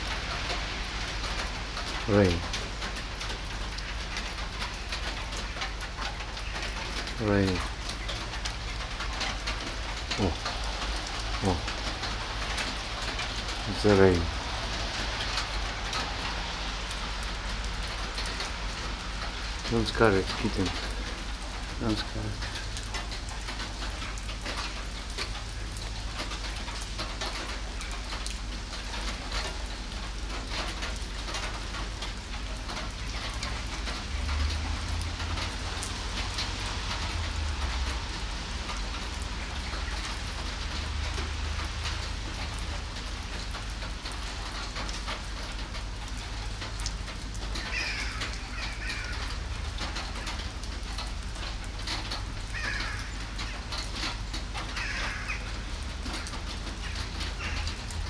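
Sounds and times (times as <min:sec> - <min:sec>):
rain falling on pavement: 0:00.0 - 0:58.0
raindrops ticking close by: 0:00.0 - 0:58.0.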